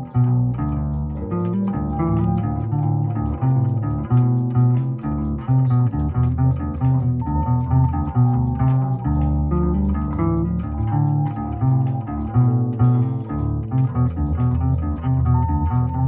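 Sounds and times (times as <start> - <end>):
electric bass lines: 0.0 - 16.0.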